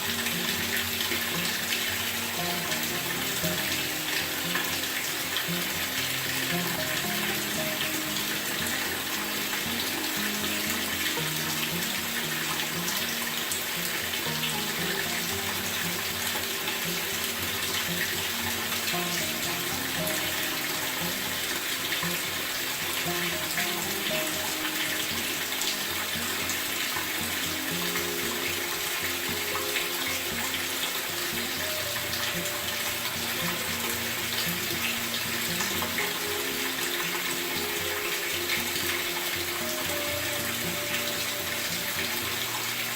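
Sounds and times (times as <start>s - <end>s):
background music: 0.0s - 42.9s
running water rushing: 0.0s - 42.9s.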